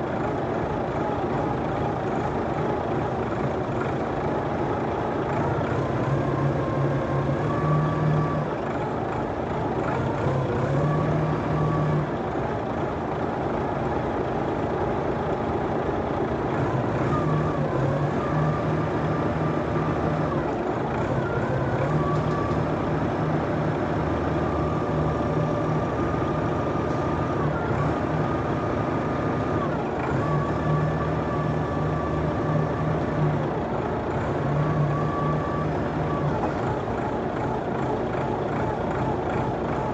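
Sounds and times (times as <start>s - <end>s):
heavy machinery running: 0.0s - 39.9s.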